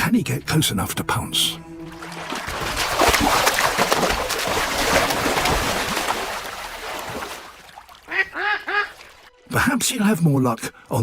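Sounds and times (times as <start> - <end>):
water splashing and churning: 0.7 - 10.9.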